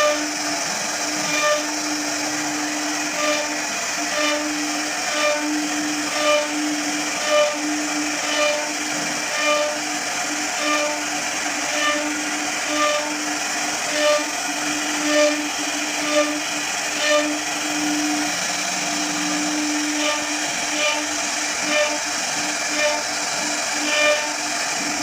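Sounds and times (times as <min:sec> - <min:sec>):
machine whine and hiss: 0:00.0 - 0:25.0.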